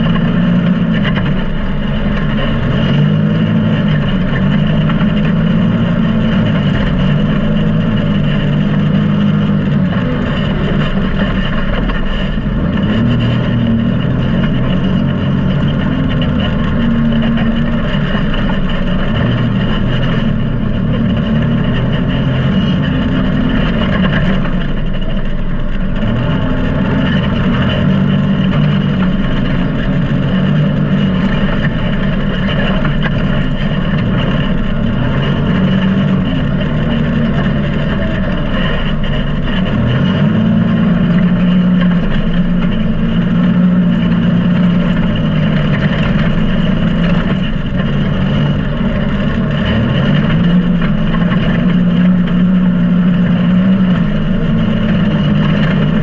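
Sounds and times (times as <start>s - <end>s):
vehicle engine running under load: 0.0s - 56.0s.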